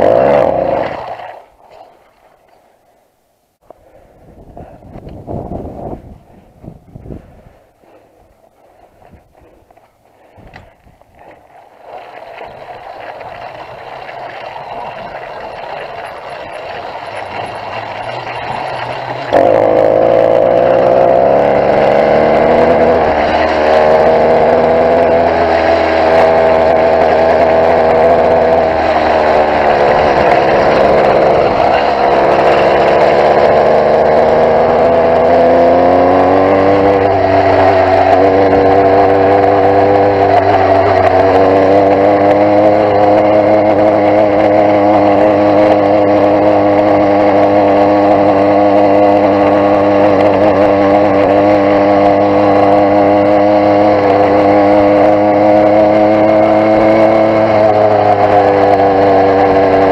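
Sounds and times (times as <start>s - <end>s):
motorised bicycle engine running: 11.2s - 59.9s.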